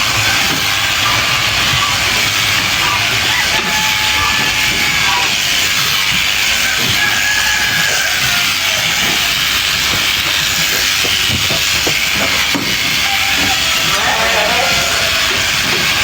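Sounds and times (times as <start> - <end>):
sheep shears cutting fleece: 0.0 - 16.0.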